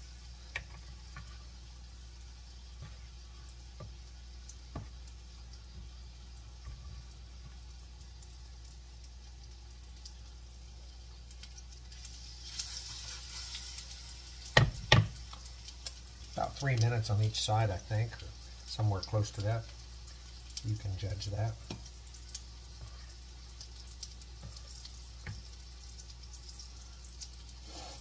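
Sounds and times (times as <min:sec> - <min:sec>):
oil sizzling: 0:00.0 - 0:28.0.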